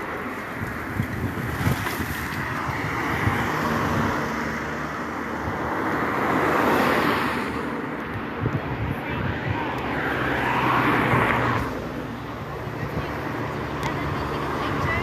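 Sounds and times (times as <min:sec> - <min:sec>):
traffic passing: 0:00.0 - 0:15.0.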